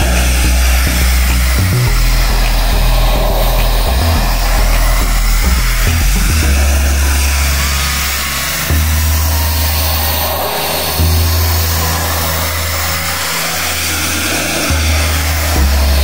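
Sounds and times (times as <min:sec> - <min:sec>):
bass background music: 0:00.0 - 0:16.0
pressure washer spraying wood: 0:00.0 - 0:16.0.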